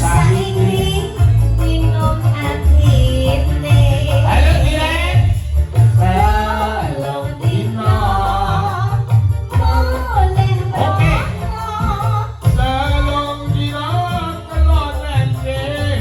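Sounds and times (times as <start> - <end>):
bass and drums: 0.0 - 16.0
singer holding long notes: 0.0 - 16.0.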